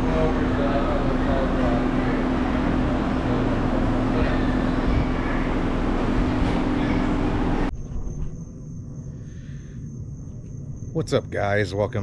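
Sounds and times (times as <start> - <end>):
machine running with hum: 0.0 - 12.0.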